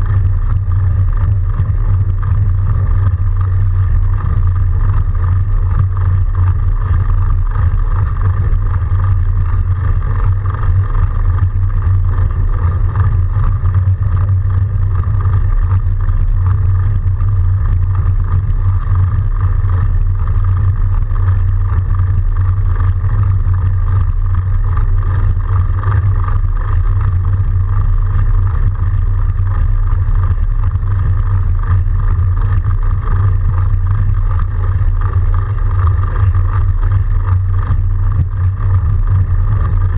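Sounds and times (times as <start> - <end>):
bike rumbling through snow: 0.0 - 39.9
high whine: 0.0 - 39.9.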